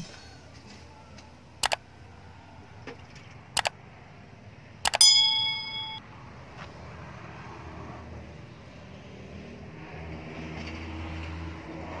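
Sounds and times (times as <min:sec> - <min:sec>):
faint low engine hum: 0:00.0 - 0:12.0.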